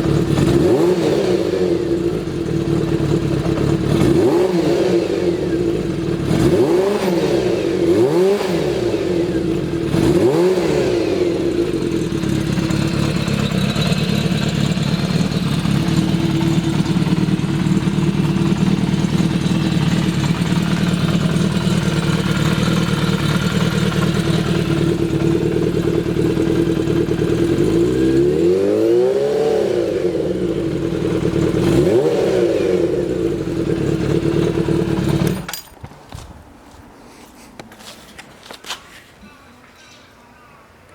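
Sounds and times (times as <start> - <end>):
motorcycle engine revving and idling: 0.0 - 35.7.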